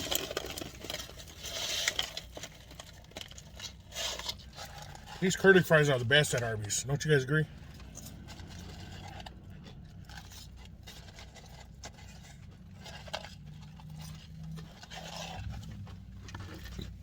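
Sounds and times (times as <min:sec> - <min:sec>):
faint chewing: 0:00.0 - 0:06.5, 0:07.5 - 0:17.0.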